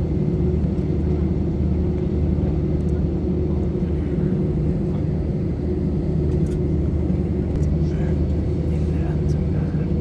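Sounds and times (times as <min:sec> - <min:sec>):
airplane cabin drone: 0:00.0 - 0:10.0.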